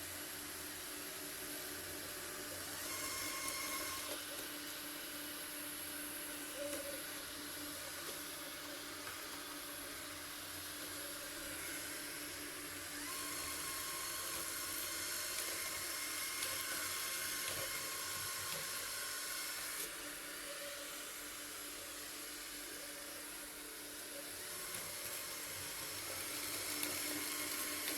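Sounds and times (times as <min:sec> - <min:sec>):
robot vacuum whirring: 0:00.0 - 0:27.9.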